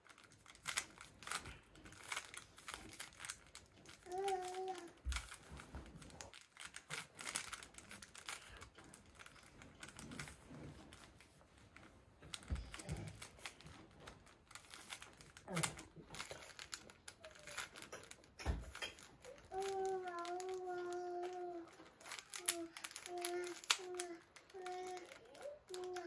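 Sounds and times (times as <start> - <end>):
puzzle cube clicking and rattling: 0.0 - 11.7, 12.3 - 26.0.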